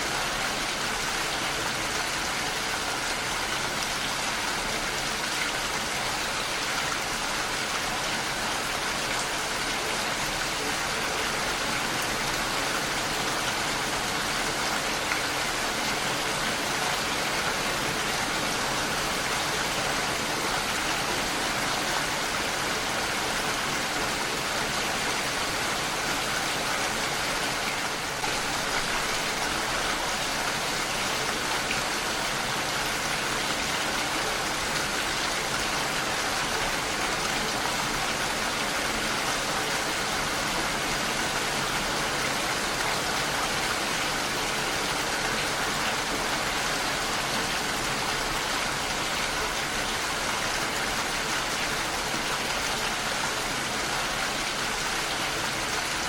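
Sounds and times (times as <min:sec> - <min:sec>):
heavy rain on a window: 0:00.0 - 0:56.0.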